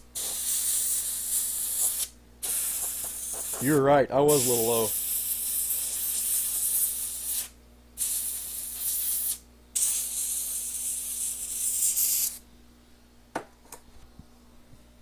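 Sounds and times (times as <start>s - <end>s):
aerosol spray can hissing: 0.2s - 12.4s.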